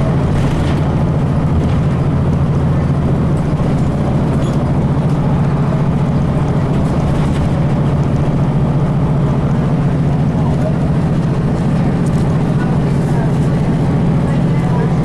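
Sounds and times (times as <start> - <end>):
bus diesel engine drone: 0.0 - 15.0.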